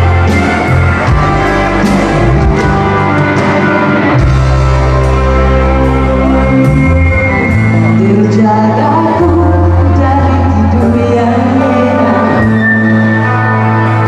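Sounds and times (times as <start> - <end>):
live band playing pop-rock: 0.0 - 14.0
person singing: 0.0 - 14.0.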